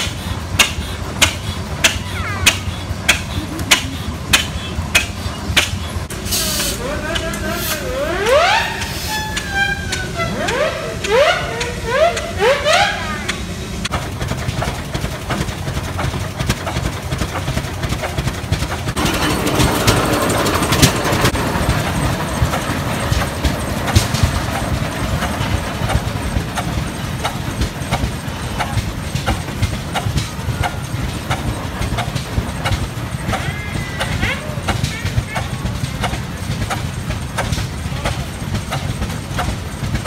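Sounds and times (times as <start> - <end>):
tractor engine exhaust beat: 0.0 - 40.0.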